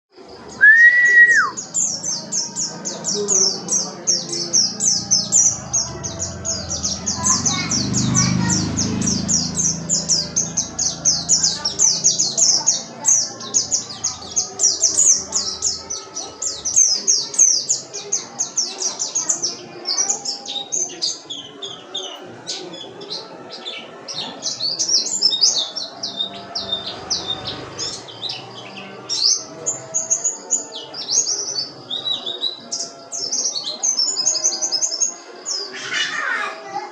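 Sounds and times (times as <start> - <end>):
bird twittering song: 0.3 - 36.4.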